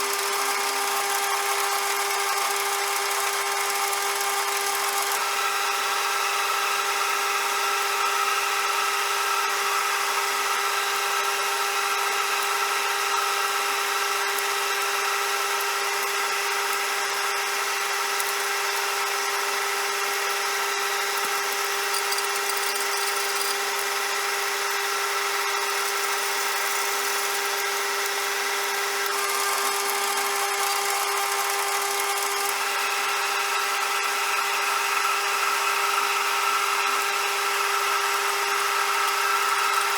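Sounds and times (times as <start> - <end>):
metal lathe motor whine: 0.0 - 39.9.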